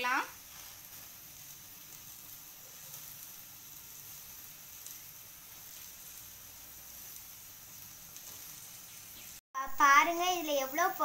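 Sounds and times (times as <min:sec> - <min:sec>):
faint sizzling hiss of grilling: 0:00.0 - 0:11.0.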